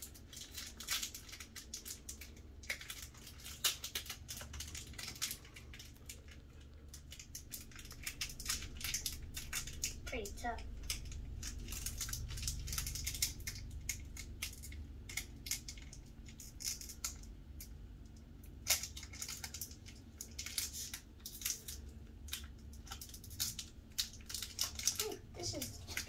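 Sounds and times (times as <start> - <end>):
foil wrapper crinkling: 0.0 - 17.7, 18.4 - 26.0.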